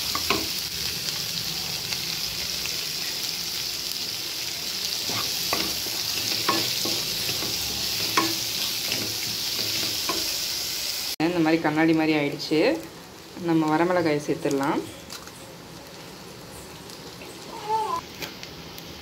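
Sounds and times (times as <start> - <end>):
onions sizzling in a pan: 0.0 - 19.0.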